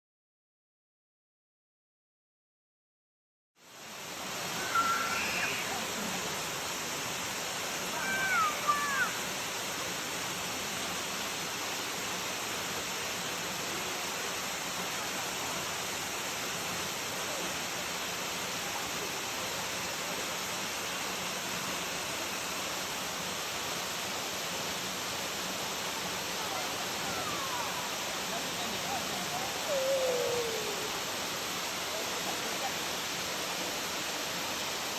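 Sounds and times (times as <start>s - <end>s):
rushing flowing water: 3.6s - 34.9s.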